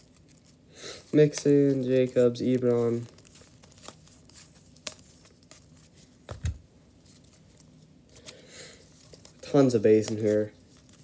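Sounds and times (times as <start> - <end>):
trading cards flipped by hand: 1.2 - 11.0.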